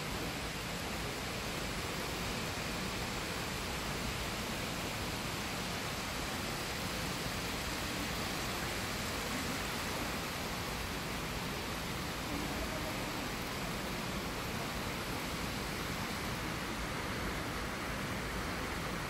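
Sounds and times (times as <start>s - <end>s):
lobby room tone hiss: 0.0s - 19.0s.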